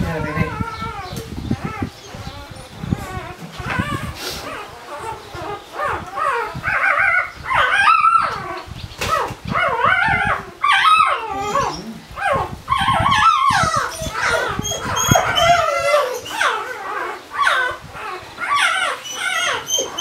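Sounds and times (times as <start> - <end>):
puppy crying in squeals: 0.1 - 20.0.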